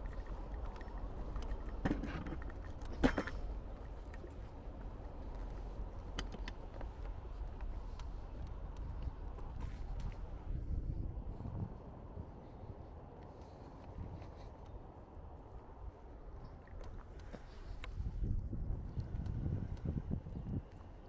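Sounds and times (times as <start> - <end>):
low street rumble: 0.0 - 21.0.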